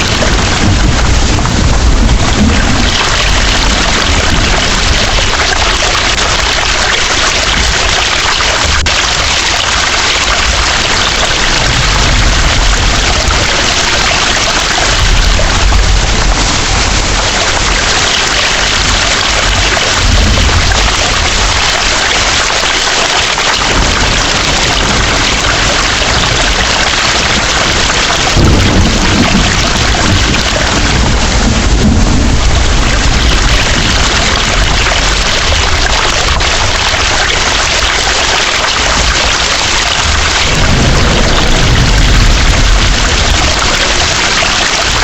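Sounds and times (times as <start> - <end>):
heavy rain hissing: 0.0 - 45.0
thunder rumbling: 0.0 - 45.0.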